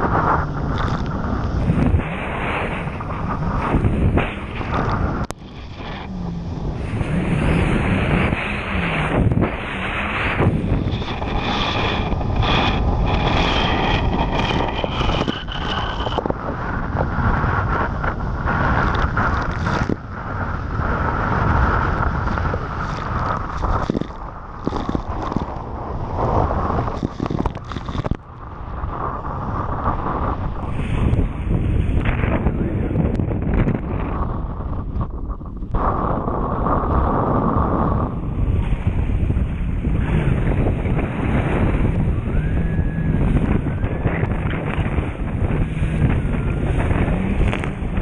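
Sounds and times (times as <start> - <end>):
jet ski engine drone: 0.0 - 48.0
wind buffeting microphone: 0.0 - 48.0.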